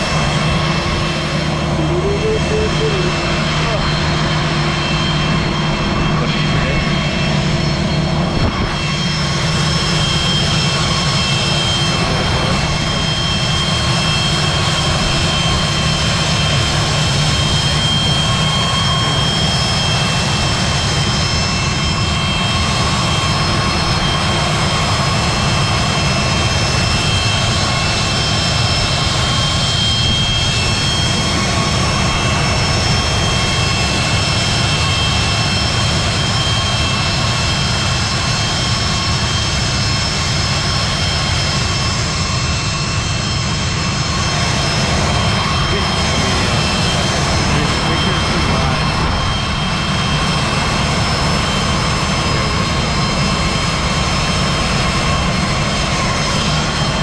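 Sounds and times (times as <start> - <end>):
high whine: 0.0 - 57.0.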